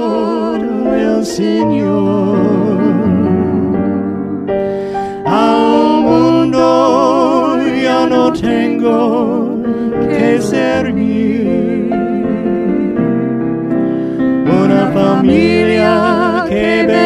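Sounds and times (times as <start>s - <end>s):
gospel song with vibrato singing: 0.0s - 17.0s.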